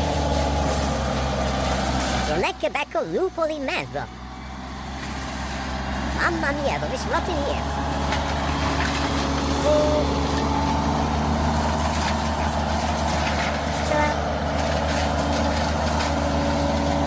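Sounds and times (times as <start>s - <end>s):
heavy machine engine drone: 0.0s - 17.0s.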